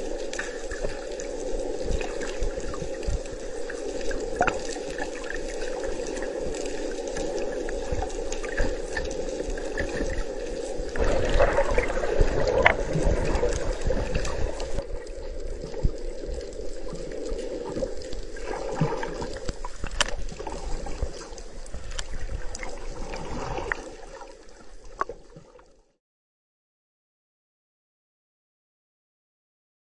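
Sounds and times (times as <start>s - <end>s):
gurgling bubbles: 0.0s - 25.7s
small underwater clicks: 0.0s - 25.8s
underwater rush of water: 0.0s - 25.9s.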